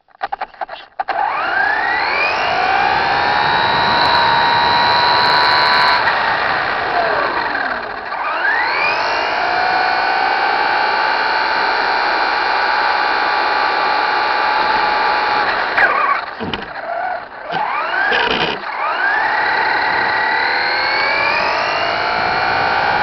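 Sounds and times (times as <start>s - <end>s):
electric motor whining: 1.0s - 23.0s.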